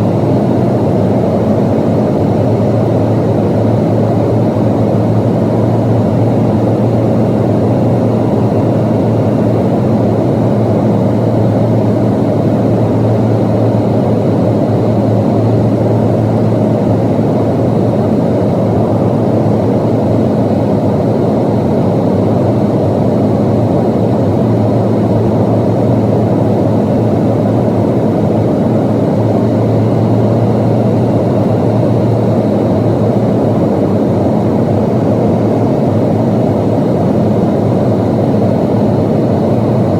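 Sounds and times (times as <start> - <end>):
low hum: 0.0 - 20.2, 22.3 - 39.9
jet engines and airflow cabin drone: 0.0 - 39.9.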